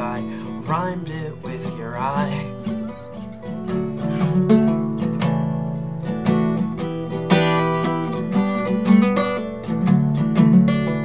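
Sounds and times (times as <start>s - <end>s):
acoustic guitar strummed: 0.0s - 11.0s.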